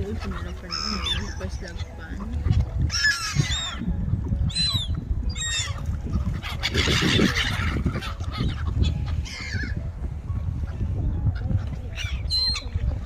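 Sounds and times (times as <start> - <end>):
waterfowl calling: 0.0 - 3.9, 4.5 - 9.8, 11.3 - 13.0.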